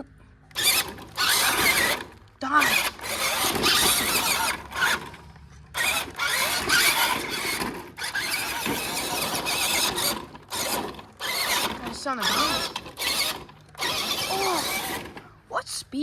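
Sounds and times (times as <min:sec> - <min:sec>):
toy truck electric motor whining: 0:00.0 - 0:15.5.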